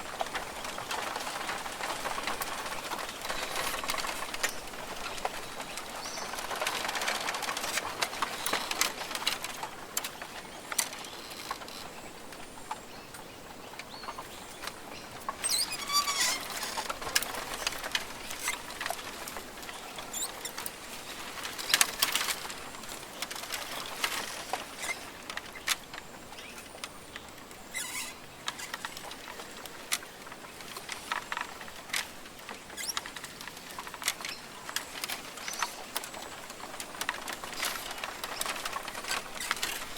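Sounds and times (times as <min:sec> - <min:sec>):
rustling and clicking: 0:00.0 - 0:39.9
steady background hiss: 0:00.0 - 0:39.9.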